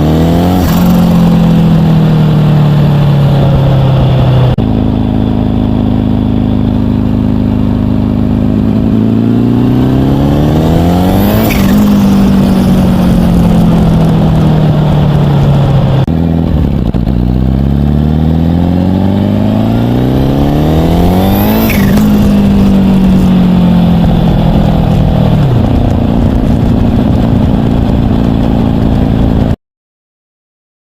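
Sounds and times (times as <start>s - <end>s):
turbocharged engine revving: 0.0s - 29.6s.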